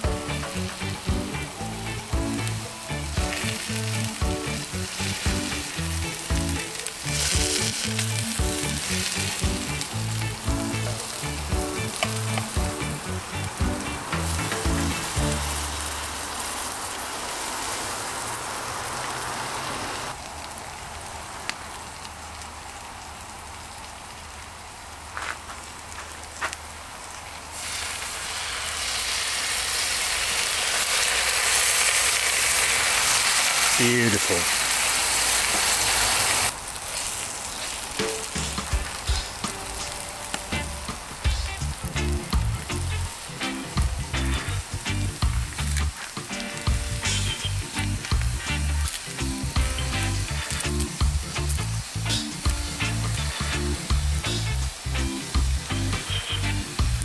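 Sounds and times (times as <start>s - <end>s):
mushrooms sizzling in pan: 0.0s - 57.0s.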